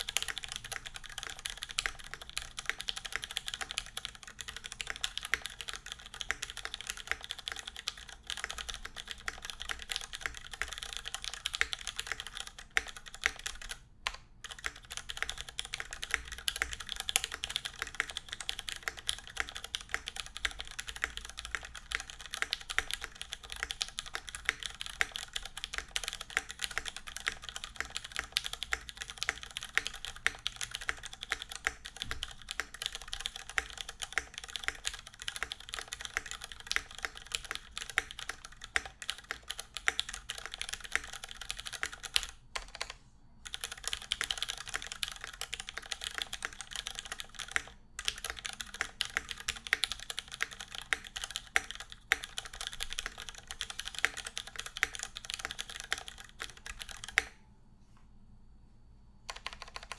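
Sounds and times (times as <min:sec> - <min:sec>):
fast typing on mechanical keyboard: 0:00.0 - 0:57.4, 0:59.3 - 0:59.9.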